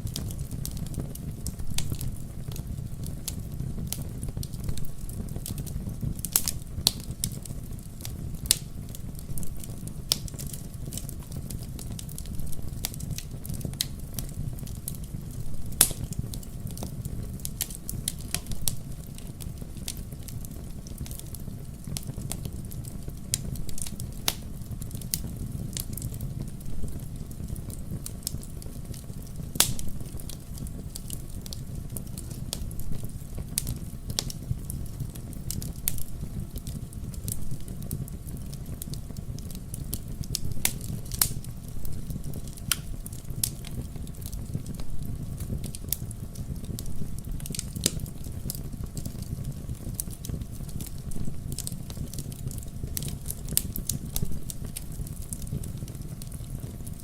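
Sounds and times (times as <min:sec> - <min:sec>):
fire crackles and pops: 0:00.0 - 0:57.0
logs burning in fireplace: 0:00.0 - 0:57.0.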